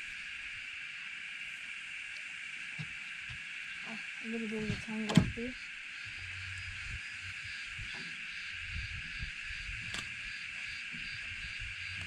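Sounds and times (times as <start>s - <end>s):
insects shrilling: 0.0s - 12.0s.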